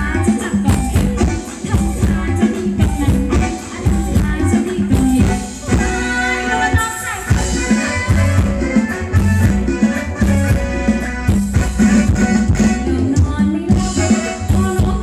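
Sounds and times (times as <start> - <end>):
live band dance music over pa: 0.0 - 15.0.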